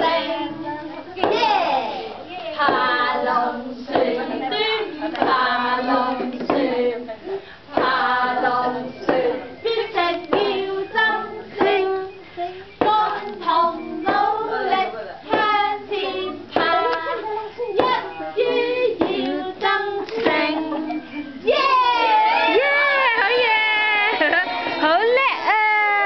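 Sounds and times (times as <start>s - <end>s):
adults and toddlers singing: 0.0s - 25.5s.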